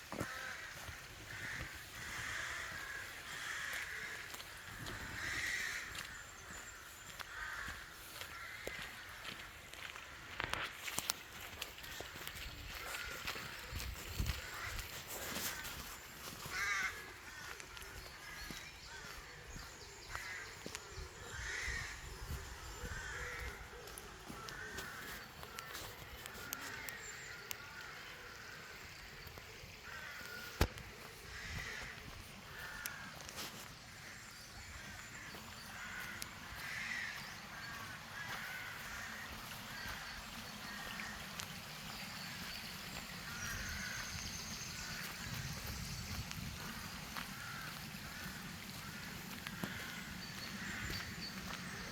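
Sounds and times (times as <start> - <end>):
crows cawing: 0.0 - 10.6, 12.7 - 29.0, 29.6 - 45.6, 46.2 - 51.9.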